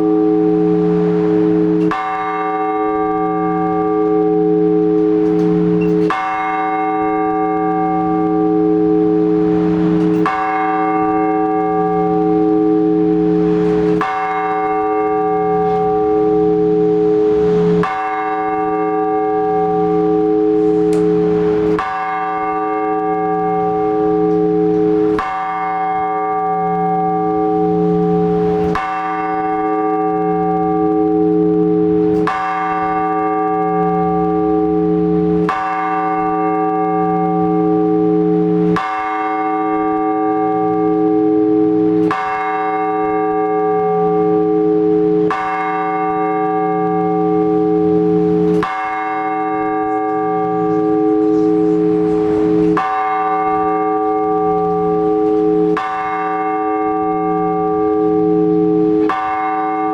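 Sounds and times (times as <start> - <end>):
large church bell tolling: 0.0 - 59.9.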